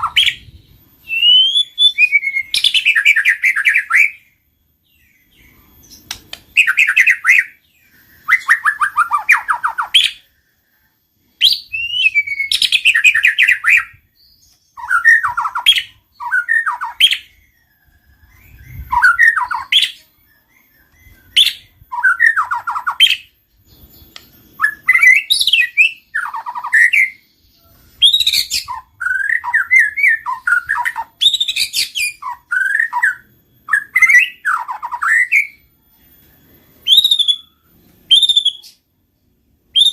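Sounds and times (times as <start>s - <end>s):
bird singing whistled phrases: 0.0s - 38.9s.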